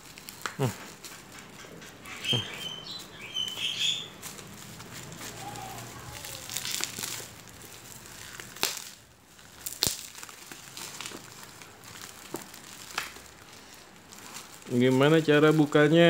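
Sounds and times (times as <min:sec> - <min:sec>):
bubble wrap parcel crinkling: 0:00.0 - 0:16.0.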